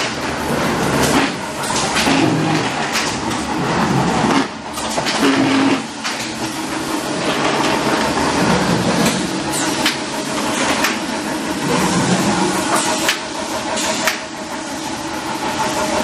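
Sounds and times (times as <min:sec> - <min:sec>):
clattering knocks and clicks: 0:00.0 - 0:14.3
machine running: 0:00.0 - 0:16.0.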